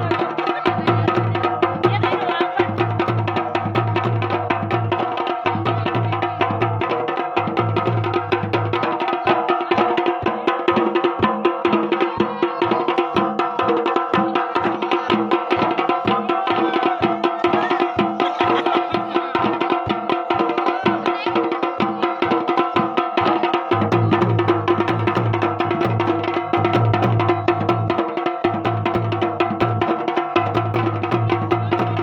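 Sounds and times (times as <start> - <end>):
fast drumming: 0.0 - 32.0.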